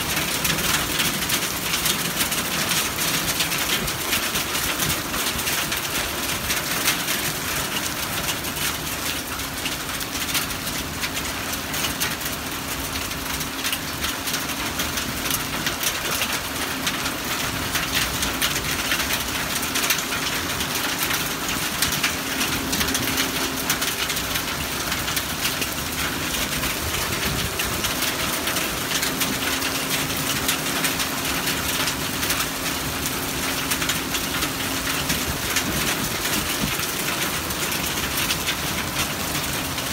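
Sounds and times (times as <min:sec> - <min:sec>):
hail and rain on concrete: 0:00.0 - 0:39.9.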